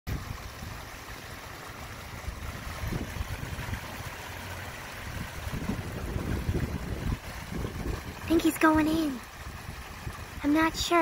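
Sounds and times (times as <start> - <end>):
stream water rushing: 0.1 - 11.0.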